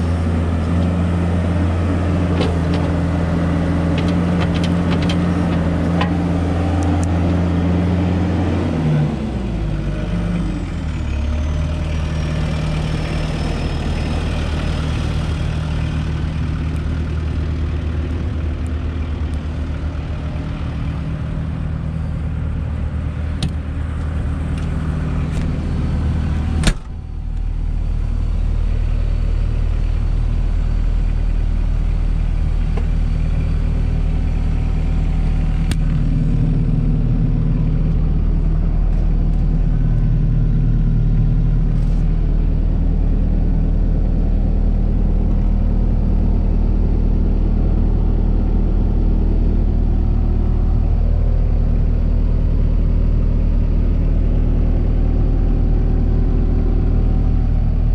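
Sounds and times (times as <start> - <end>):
diesel engine droning: 0.0 - 57.9.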